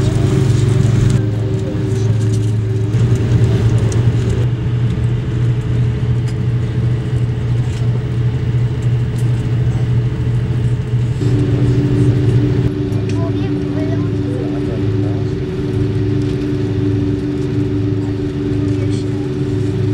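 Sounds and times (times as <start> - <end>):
jet engine cabin drone: 0.0 - 19.9.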